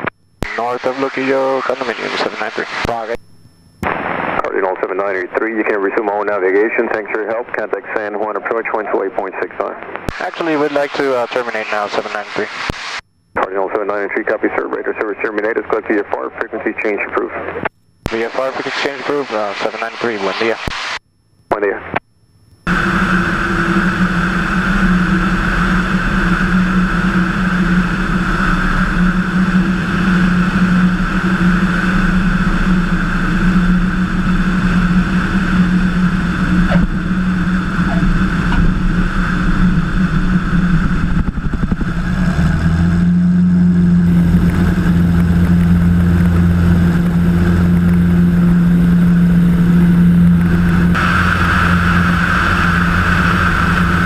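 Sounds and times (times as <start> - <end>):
propeller plane engine droning: 0.0 - 20.7, 22.6 - 54.0.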